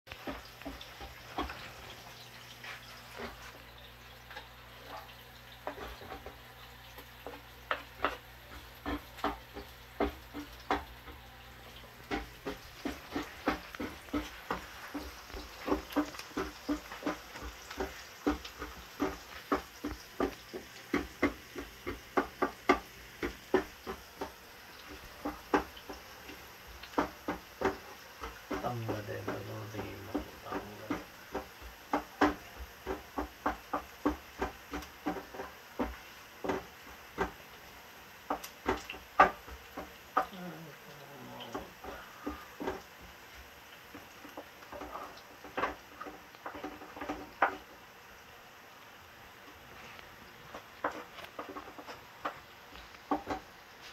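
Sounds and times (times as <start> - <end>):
spatula scraping frying pan: 0.1 - 40.3, 41.4 - 47.8, 49.7 - 53.9
faint oil sizzle: 0.1 - 53.9.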